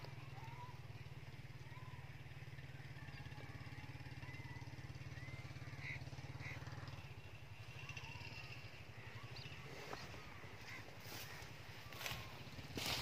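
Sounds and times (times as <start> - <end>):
engine running: 0.0 - 13.0
bird chirps: 1.6 - 13.0.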